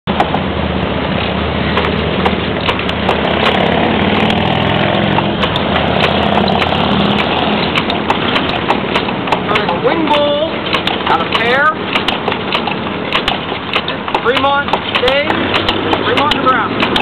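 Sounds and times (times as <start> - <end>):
sharp clicks and knocks: 0.1 - 0.4, 1.2 - 17.0
engine idling: 0.1 - 17.0.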